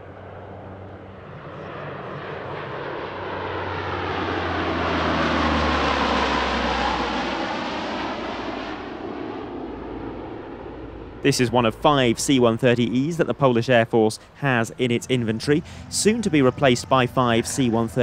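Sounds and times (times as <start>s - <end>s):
turboprop aircraft flying past: 0.0s - 18.0s.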